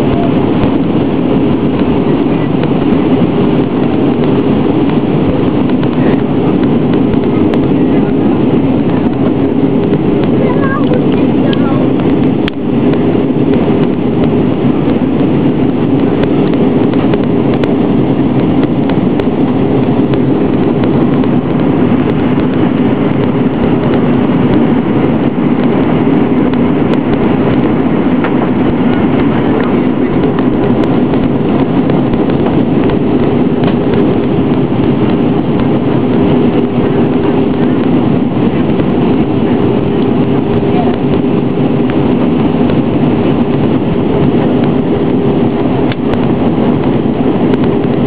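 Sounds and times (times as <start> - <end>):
constant low hum: 0.0 - 48.0
jet engine and airflow drone: 0.0 - 48.0.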